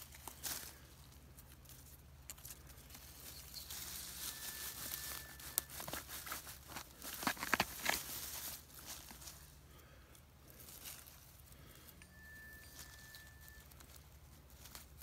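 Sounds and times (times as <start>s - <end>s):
plants rustling and crackling: 0.0s - 15.0s.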